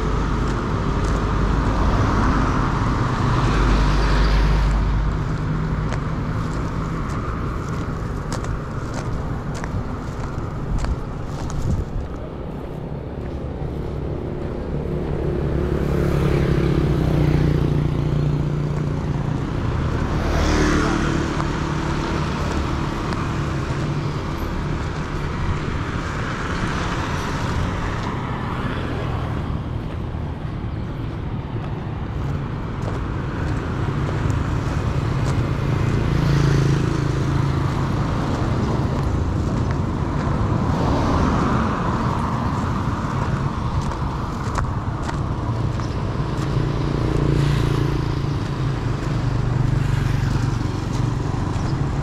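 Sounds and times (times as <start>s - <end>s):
steady street hum: 0.0s - 52.0s
vehicles passing: 0.0s - 52.0s.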